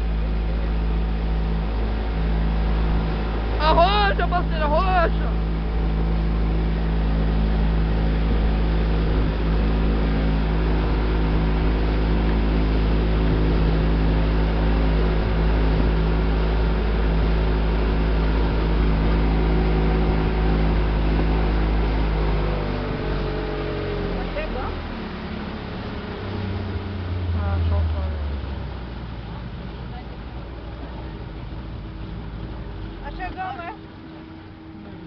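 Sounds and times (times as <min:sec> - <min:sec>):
motorboat engine droning: 0:00.0 - 0:35.0.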